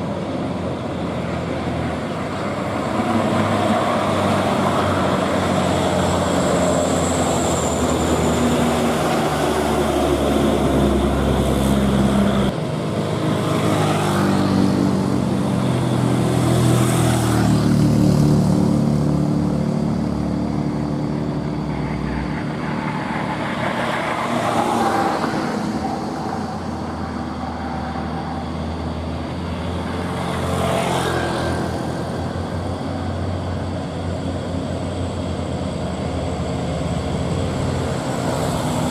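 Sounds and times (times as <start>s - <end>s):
road traffic: 0.0s - 38.9s.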